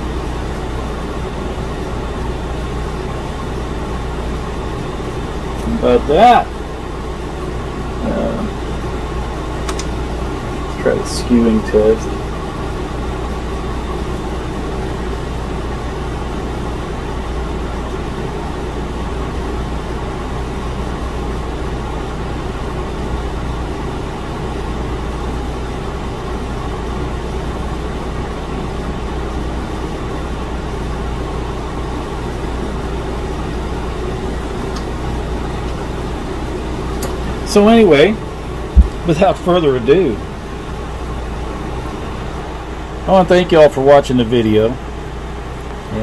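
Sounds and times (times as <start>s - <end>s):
air conditioning hum: 0.0s - 46.0s.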